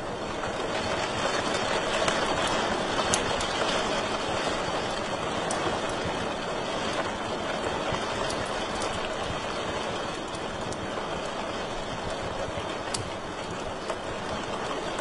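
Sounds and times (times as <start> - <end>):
fire crackles and pops: 0.0 - 15.0.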